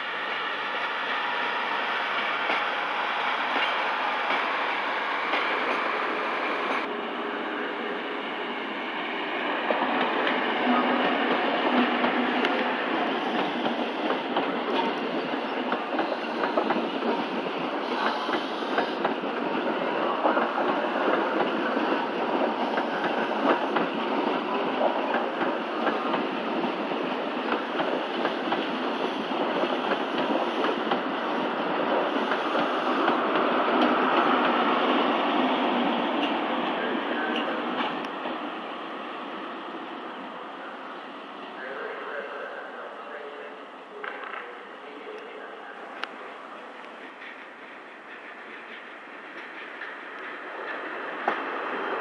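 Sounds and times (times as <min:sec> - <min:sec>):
train wheels rumbling on rail: 0:00.0 - 0:38.6, 0:45.9 - 0:52.0.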